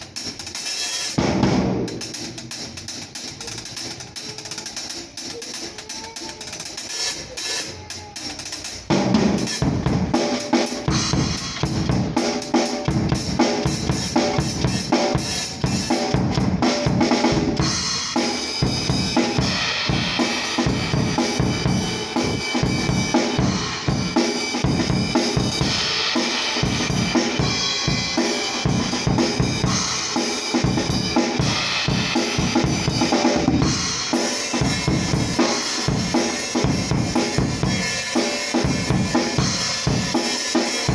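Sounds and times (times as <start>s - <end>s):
drum kit playing: 0.0s - 40.9s
cymbals washing: 1.8s - 40.9s.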